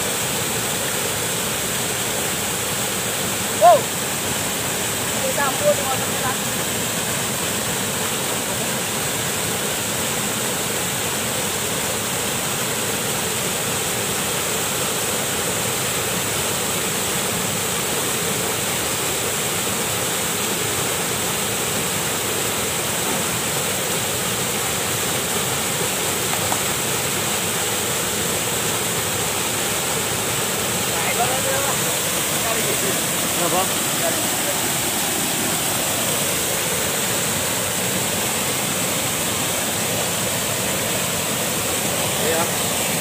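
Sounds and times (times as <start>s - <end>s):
small waterfall rushing: 0.0s - 43.0s.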